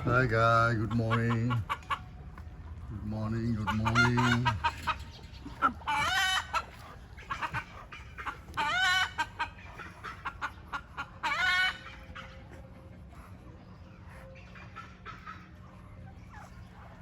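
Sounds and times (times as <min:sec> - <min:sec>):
chicken drawn-out calls: 0:00.0 - 0:17.0
chickens clucking: 0:00.0 - 0:17.0.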